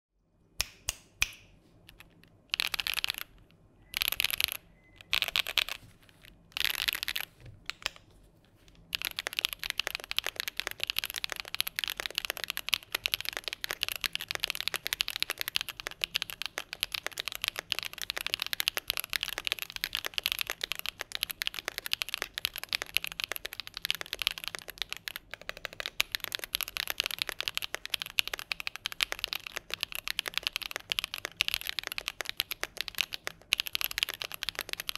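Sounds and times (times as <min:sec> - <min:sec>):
mechanical keyboard typing: 0:01.9 - 0:08.0, 0:08.8 - 0:34.9.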